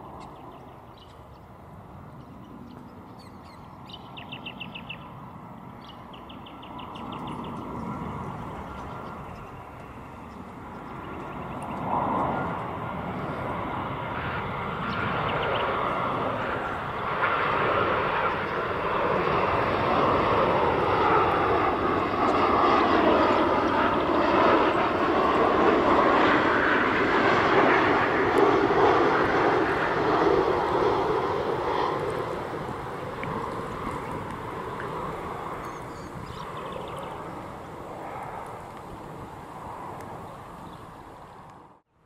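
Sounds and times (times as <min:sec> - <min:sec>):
jet airliner flying past: 0:00.0 - 0:42.0.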